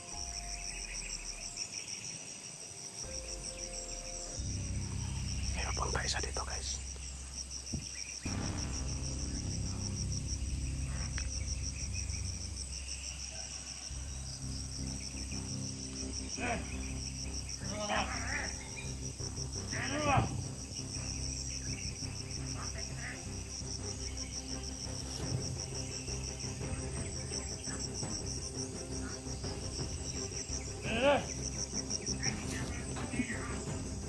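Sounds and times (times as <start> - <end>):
low music drone: 0.0 - 2.2, 3.0 - 34.0
insects trilling: 0.0 - 34.0.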